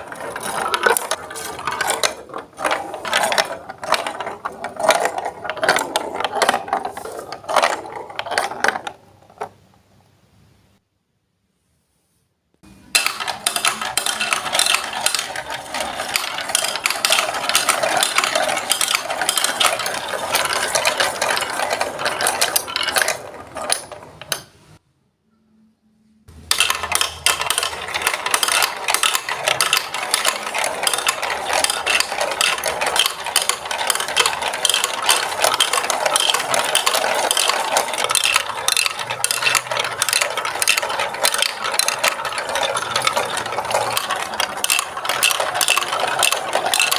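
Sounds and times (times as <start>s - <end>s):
marbles rattling down toy track: 0.0s - 9.5s, 12.9s - 24.5s, 26.4s - 46.9s.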